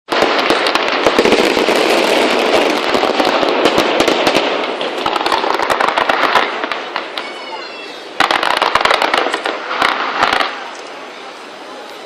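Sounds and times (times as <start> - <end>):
fireworks cracks and pops: 0.1 - 11.1
fireworks crackling hiss: 0.1 - 12.0.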